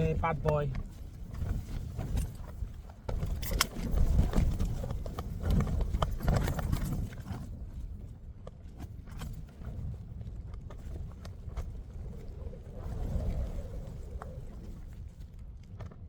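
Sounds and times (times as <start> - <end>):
storm wind buffeting tent: 0.0 - 16.0.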